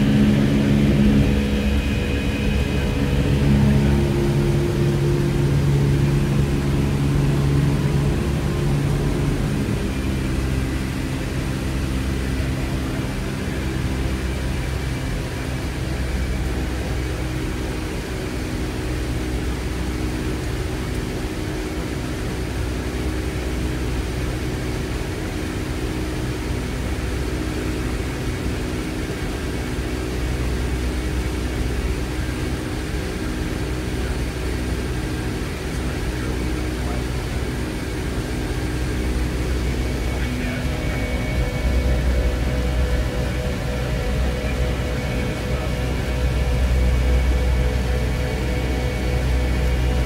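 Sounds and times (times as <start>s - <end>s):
jet engines droning in flight: 0.0s - 50.0s.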